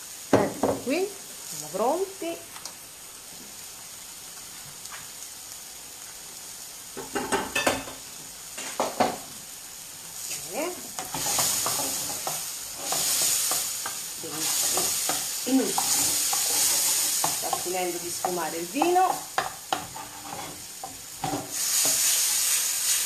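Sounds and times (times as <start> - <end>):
prawns sizzling in a pan: 0.0 - 23.0.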